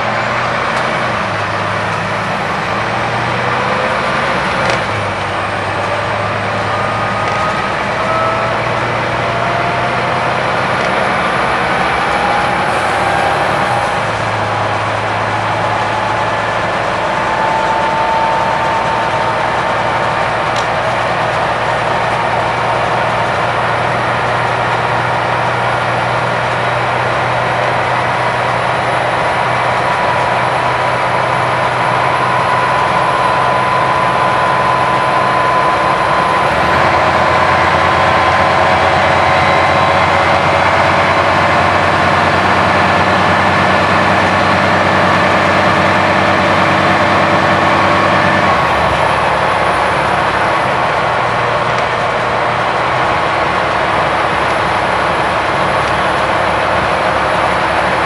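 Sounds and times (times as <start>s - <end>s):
bus diesel engine accelerating: 0.0s - 58.0s
rising whine: 0.0s - 58.0s.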